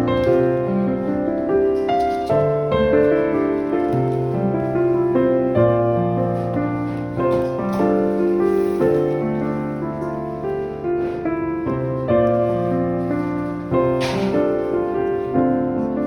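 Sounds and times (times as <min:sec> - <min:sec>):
soft piano piece: 0:00.0 - 0:16.0.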